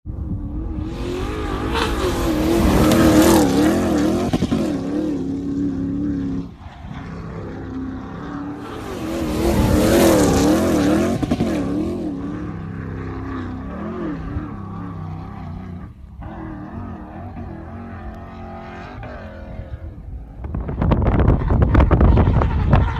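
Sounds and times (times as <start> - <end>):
car engine revving: 0.2 - 22.9.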